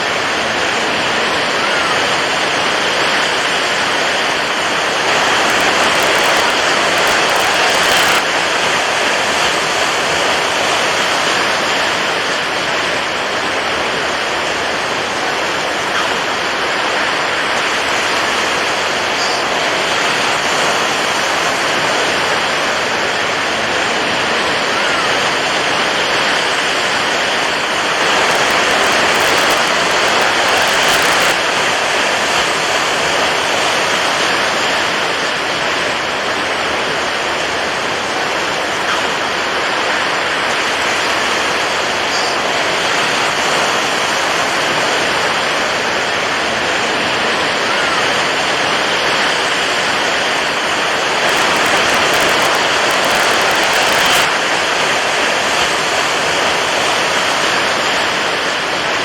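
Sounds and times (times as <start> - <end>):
water waves washing: 0.0 - 59.0.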